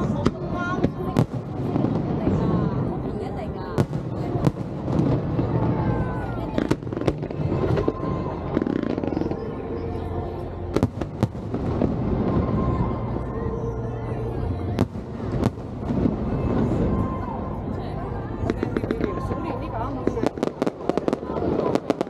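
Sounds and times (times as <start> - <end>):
firework bangs: 0.0 - 9.5, 10.7 - 13.0, 14.7 - 17.3, 18.4 - 22.0
firework display rumble: 0.0 - 22.0.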